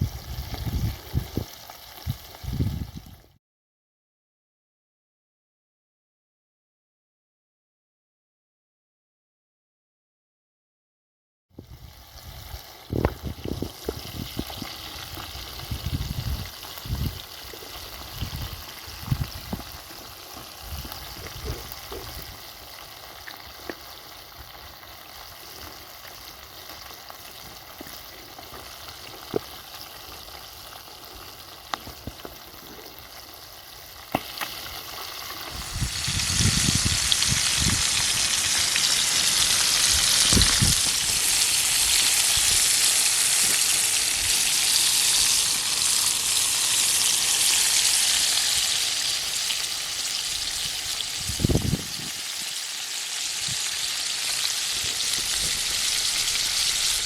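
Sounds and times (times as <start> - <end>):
food sizzling in a pan: 0.0 - 3.3, 11.6 - 57.0.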